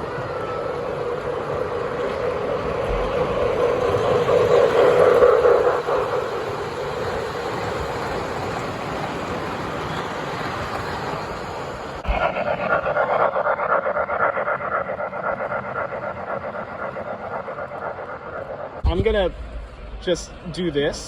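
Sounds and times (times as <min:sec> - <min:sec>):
model train running on track: 0:00.0 - 0:18.8.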